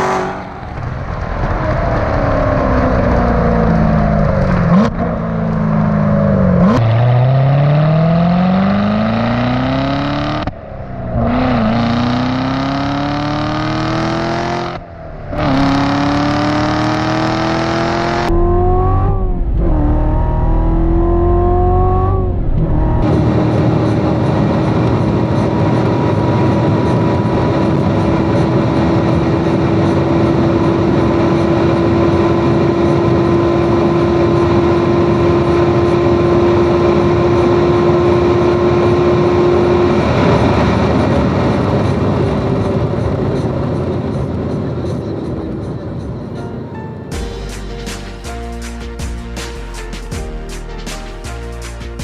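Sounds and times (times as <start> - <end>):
car engine accelerating: 0.0 - 46.4.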